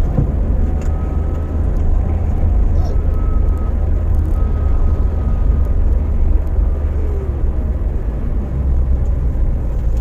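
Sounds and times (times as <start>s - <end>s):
car engine low hum: 0.0s - 10.0s
road rumble and tyre noise: 0.0s - 10.0s.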